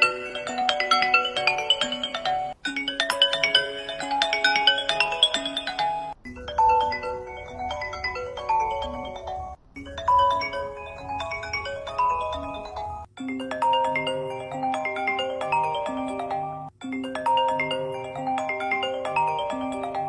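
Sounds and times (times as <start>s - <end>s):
phone ringtone tune: 0.0s - 20.0s.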